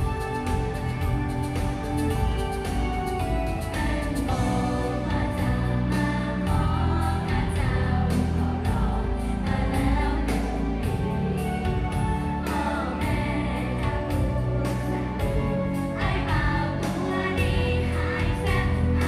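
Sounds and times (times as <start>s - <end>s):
pop backing music with drums: 0.0s - 19.0s
girls singing together: 3.2s - 19.0s.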